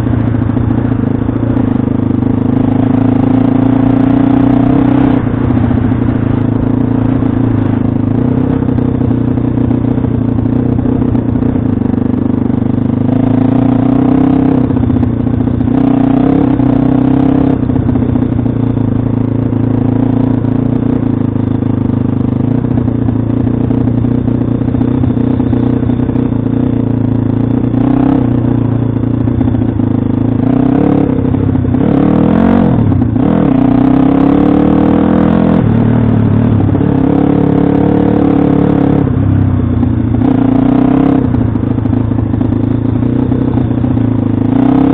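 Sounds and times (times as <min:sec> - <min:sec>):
motorbike engine revving: 0:00.0 - 0:44.9.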